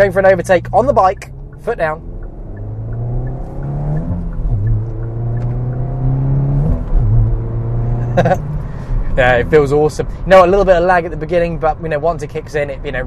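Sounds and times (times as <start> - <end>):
car engine revving with gear shifts: 0.0 - 10.8.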